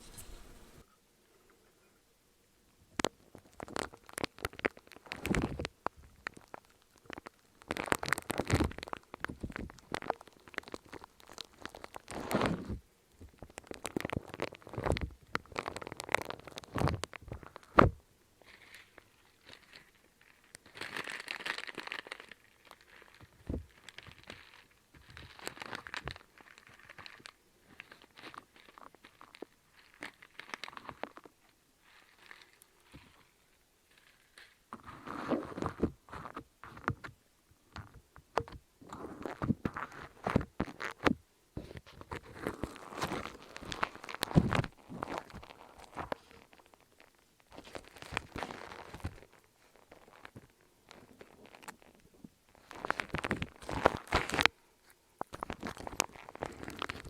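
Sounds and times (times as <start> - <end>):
crunching and crinkling: 2.9 - 57.0.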